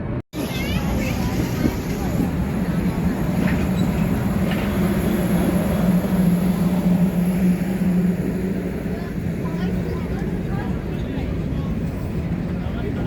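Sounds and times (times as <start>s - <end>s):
train engine drone and rumble: 0.0s - 13.0s.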